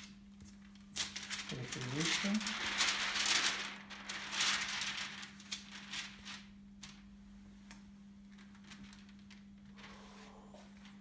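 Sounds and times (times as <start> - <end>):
low steady hum: 0.0 - 11.0
plastic sheet rustling: 0.0 - 11.0.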